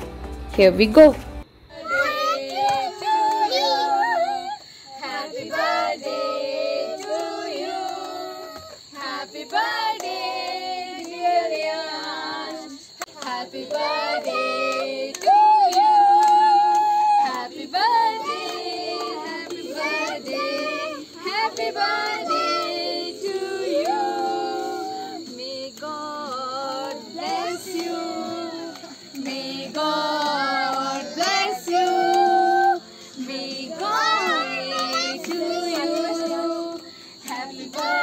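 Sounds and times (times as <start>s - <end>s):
children and women singing together: 1.7s - 38.0s.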